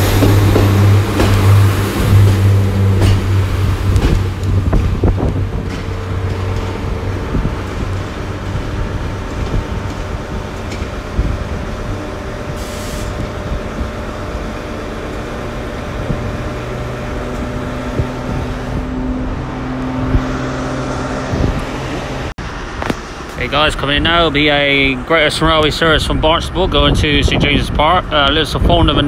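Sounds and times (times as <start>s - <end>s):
diesel train engine drone: 0.0s - 29.0s.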